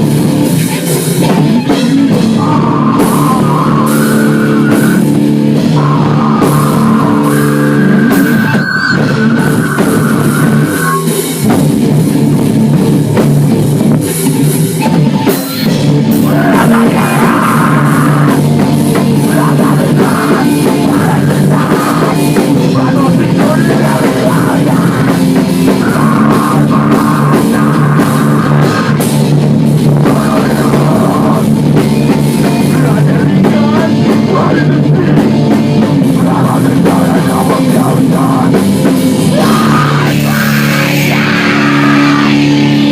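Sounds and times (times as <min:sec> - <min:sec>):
heavy metal band music: 0:00.0 - 0:42.9.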